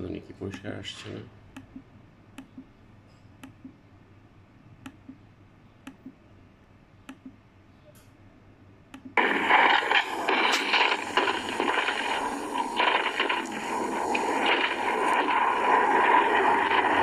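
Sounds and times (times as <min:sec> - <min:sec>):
noisy playback from speakers: 0:00.0 - 0:17.0.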